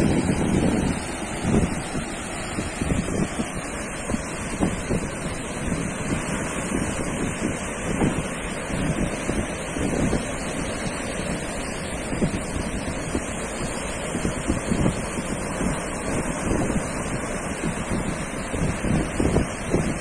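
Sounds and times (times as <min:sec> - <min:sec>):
surf washing onto sandy beach: 0:00.0 - 0:20.0
wind buffeting microphone: 0:00.0 - 0:20.0.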